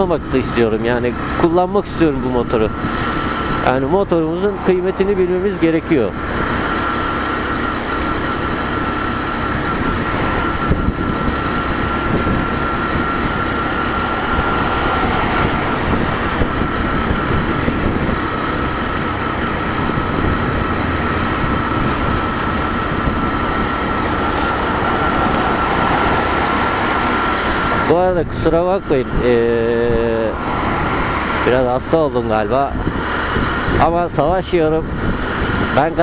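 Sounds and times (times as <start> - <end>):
motorcycle engine cruising: 0.0 - 36.0
thin steady whine: 0.0 - 36.0
wind noise: 2.5 - 5.2, 6.1 - 36.0.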